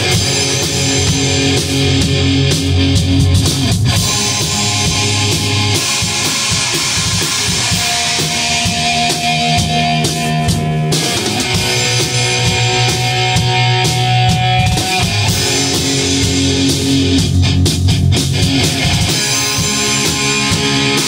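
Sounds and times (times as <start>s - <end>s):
drum kit beat: 0.0s - 21.0s
electric guitar rock riff: 0.0s - 21.0s.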